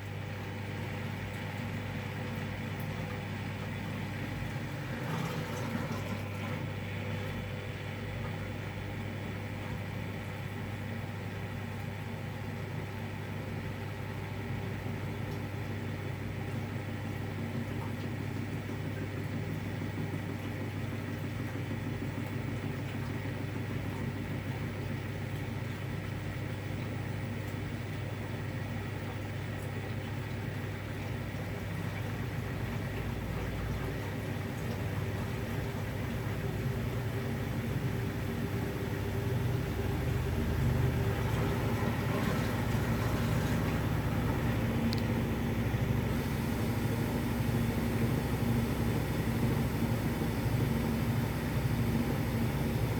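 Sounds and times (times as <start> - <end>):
washing machine motor hum: 0.0 - 52.9.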